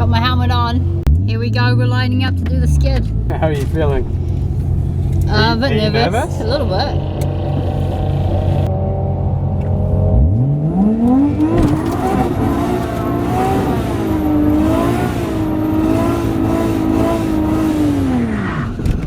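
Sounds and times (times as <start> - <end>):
car engine revving hard: 3.6 - 18.9.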